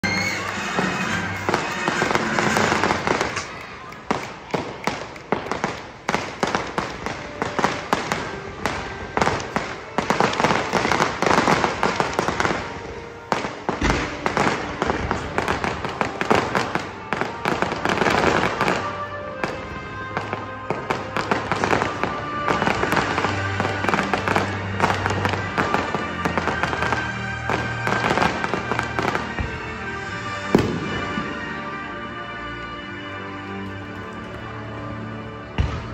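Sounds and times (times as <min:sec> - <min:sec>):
fireworks bangs and crackles: 0:00.0 - 0:32.9, 0:33.7 - 0:35.9.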